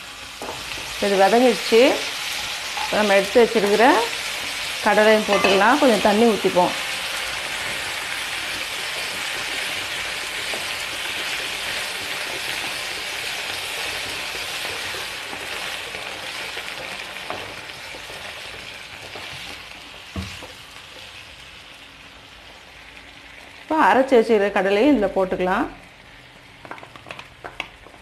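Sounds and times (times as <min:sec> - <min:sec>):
food sizzling in oily pan: 0:00.0 - 0:28.0.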